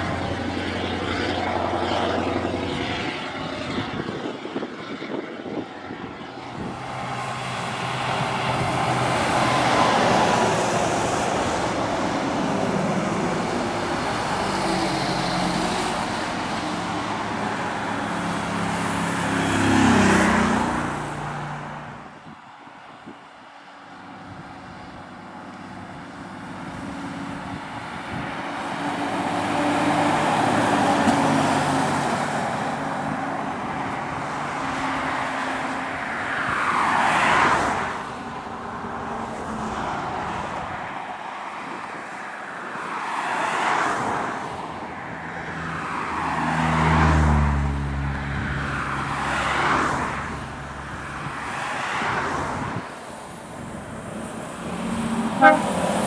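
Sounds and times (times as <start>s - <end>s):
heavy trucks climbing uphill: 0.0s - 41.2s, 48.1s - 56.0s.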